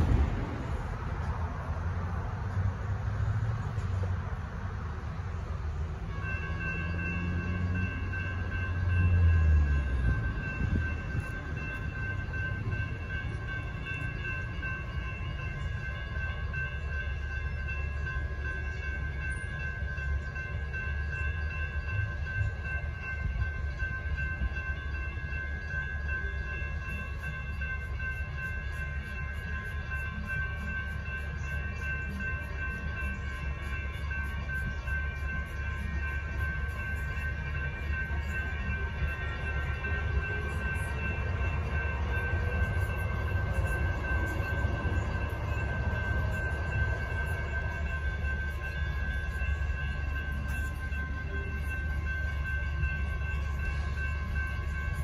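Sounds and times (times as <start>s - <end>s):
crossing warning bells ringing: 0.0s - 55.0s
light rail train rumbling: 0.0s - 55.0s.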